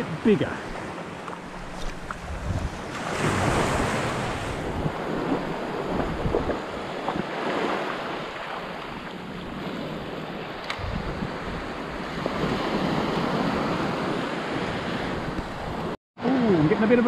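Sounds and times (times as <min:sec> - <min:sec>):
wind on microphone: 0:00.0 - 0:16.0
small waves washing onto beach: 0:00.0 - 0:17.0.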